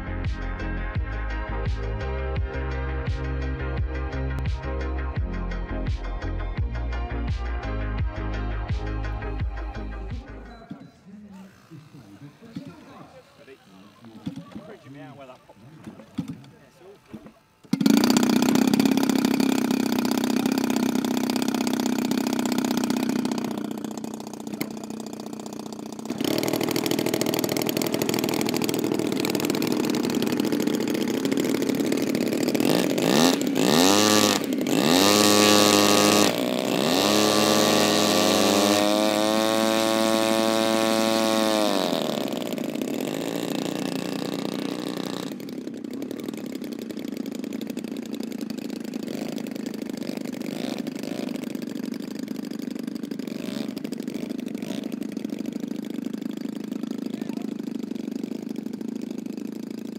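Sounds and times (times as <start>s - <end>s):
model plane engine idling: 9.4s - 59.9s
model plane engine revving: 11.3s - 59.9s.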